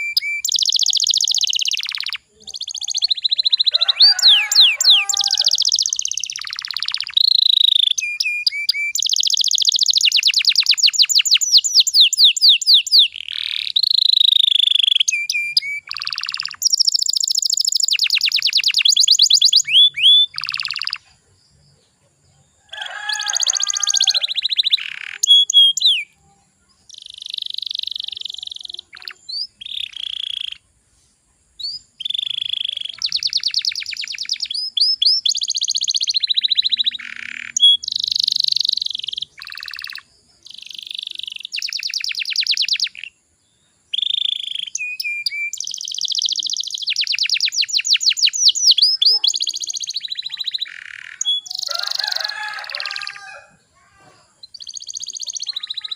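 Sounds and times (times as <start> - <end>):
canary singing fast trills: 0.0 - 30.8, 31.5 - 53.8, 54.4 - 55.9.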